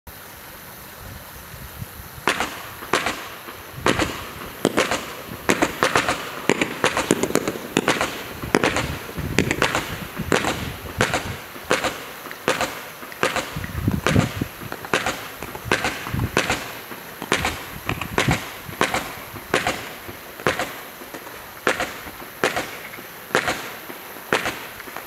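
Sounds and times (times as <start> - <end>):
firework pops and bursts: 1.9 - 25.0.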